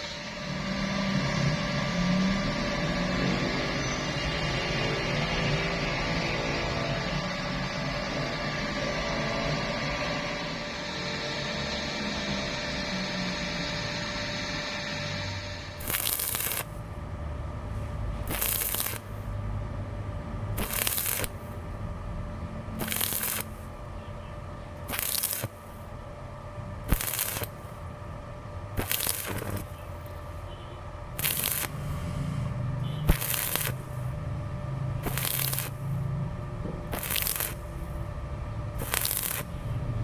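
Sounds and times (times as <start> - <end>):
arc welding crackling: 0.0 - 7.8, 9.6 - 40.0
low electrical hum: 0.0 - 40.0.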